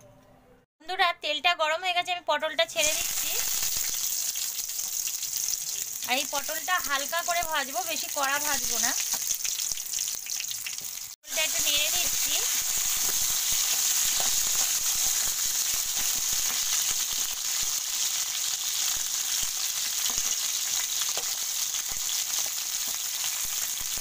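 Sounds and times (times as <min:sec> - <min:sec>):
vegetables sizzling in oil: 0:02.7 - 0:24.0.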